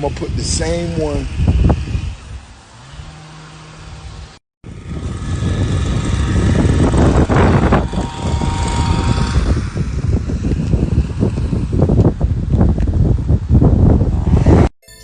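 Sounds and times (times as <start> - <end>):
car engine rumbling: 0.0 - 14.3.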